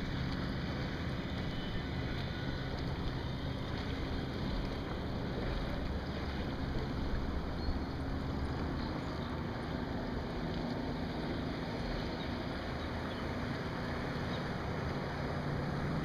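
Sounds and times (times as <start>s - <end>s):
water washing along hull: 0.0s - 16.0s.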